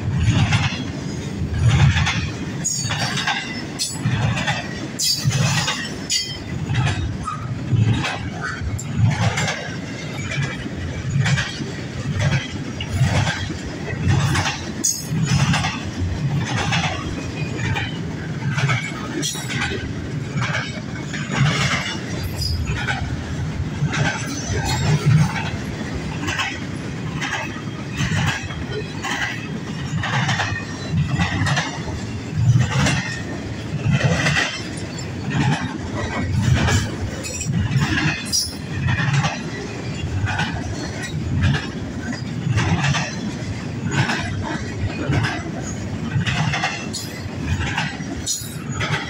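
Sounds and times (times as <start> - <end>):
freight train rumbling: 0.0 - 49.0
train wheels clacking over rail joints: 0.0 - 49.0.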